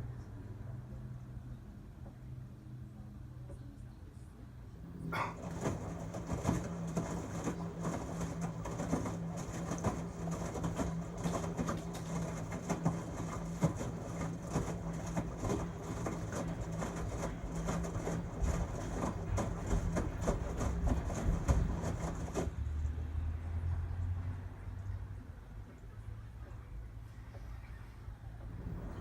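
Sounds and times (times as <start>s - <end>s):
washing machine hum: 4.6s - 24.7s, 25.3s - 29.0s.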